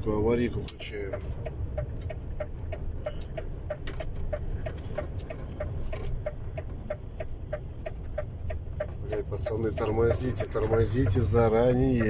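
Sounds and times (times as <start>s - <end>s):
truck engine drone: 0.0s - 12.0s
hazard light flasher ticking: 0.4s - 12.0s.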